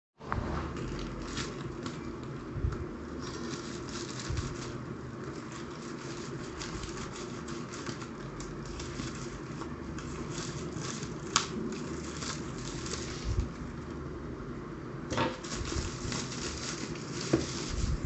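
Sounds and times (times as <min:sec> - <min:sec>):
packaging scraping and rustling: 0:00.6 - 0:02.4, 0:03.1 - 0:13.6, 0:15.1 - 0:18.0.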